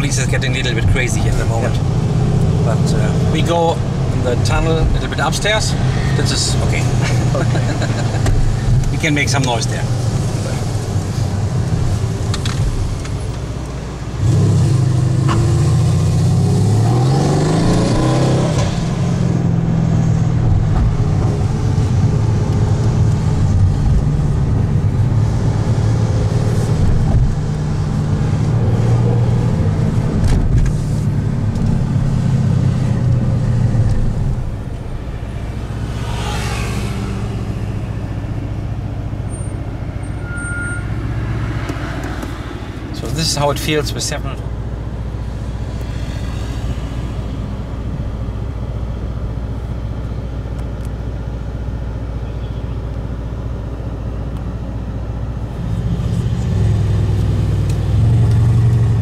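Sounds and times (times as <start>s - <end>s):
car engine accelerating: 0.0s - 51.0s, 55.2s - 59.0s.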